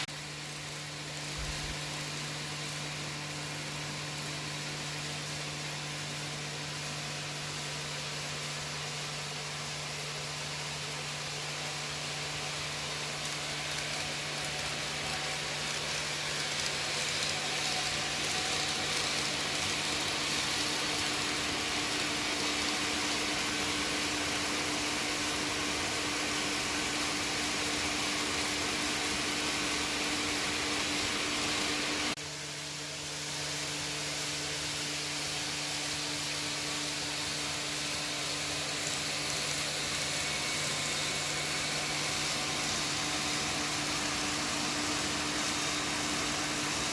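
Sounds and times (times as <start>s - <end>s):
model train motor hum: 0.0s - 46.9s
wheels hissing on track: 0.0s - 46.9s.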